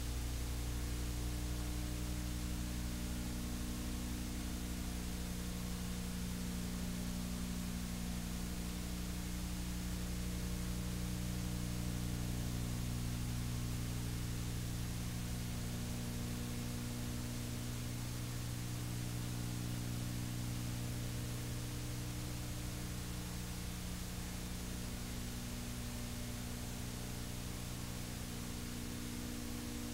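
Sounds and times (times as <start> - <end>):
electrical mains hum: 0.0 - 29.9
tape hiss: 0.0 - 29.9.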